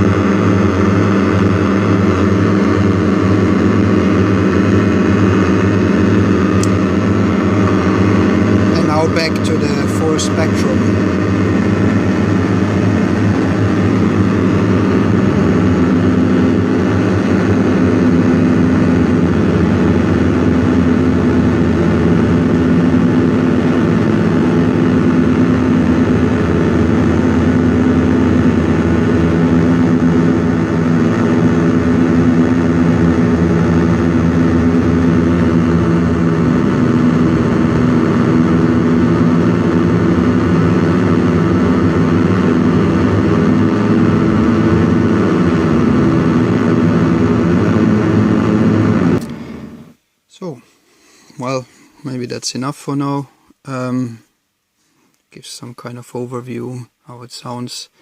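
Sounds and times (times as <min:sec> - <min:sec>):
buzzing synth drone: 0:00.0 - 0:54.3.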